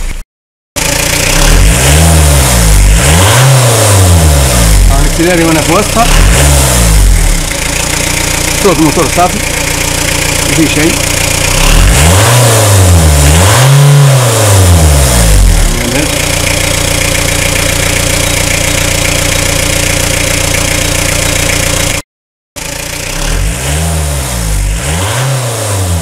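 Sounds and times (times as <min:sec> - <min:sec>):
diesel engine revving and idling: 0:00.8 - 0:22.0, 0:22.6 - 0:26.0.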